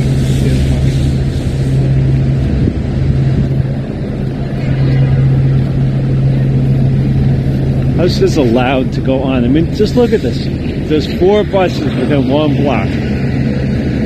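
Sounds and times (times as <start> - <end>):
idling diesel buses: 0.0 - 14.0.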